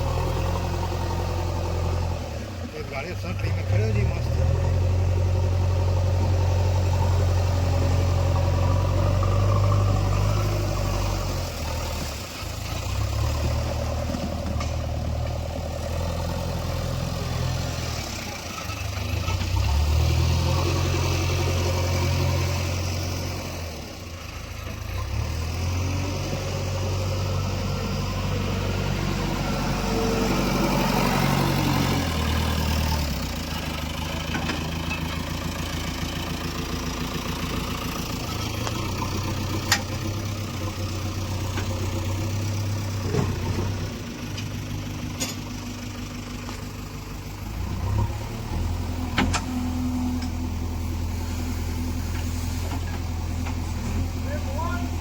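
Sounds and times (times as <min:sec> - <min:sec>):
diesel engine under changing load: 0:00.0 - 0:55.0.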